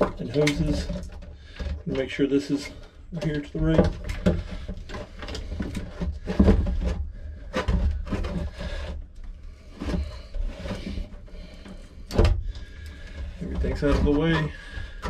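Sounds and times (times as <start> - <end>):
plastic pump knocks and scrapes: 0.0 - 15.0.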